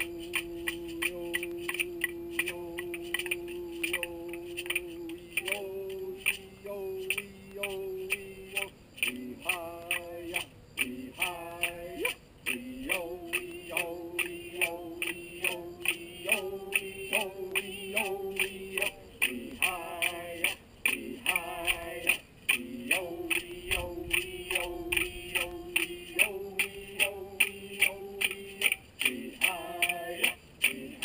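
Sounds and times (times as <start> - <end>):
person chanting in long notes: 0.0 - 31.0.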